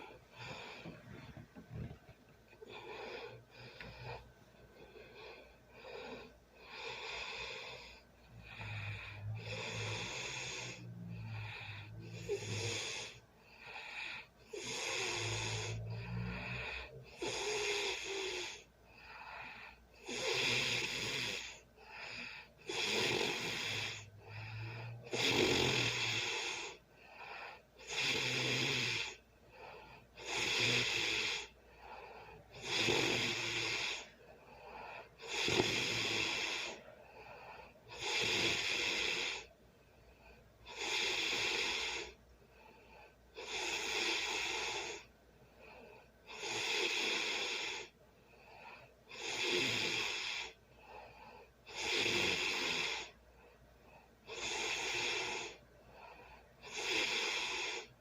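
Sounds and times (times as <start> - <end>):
person snoring: 0.0 - 39.5, 40.6 - 42.2, 43.3 - 45.1, 46.3 - 47.9, 48.6 - 50.6, 51.7 - 53.2, 54.3 - 55.6, 56.6 - 58.0.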